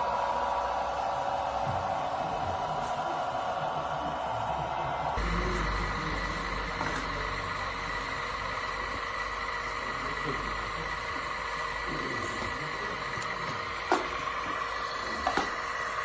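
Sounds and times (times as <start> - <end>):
electric model whine and hum: 0.0 - 16.0.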